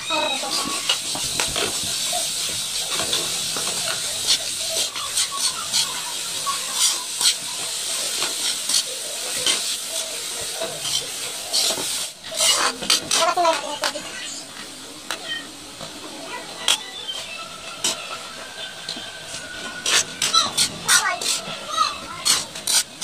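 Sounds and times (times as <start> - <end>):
meat sizzling in a wok: 0.0 - 23.0.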